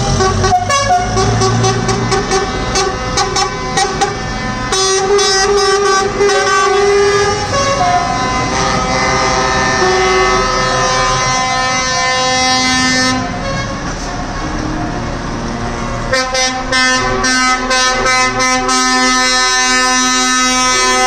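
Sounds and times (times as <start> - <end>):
truck air horns blasting: 0.0 - 14.7, 15.7 - 21.0.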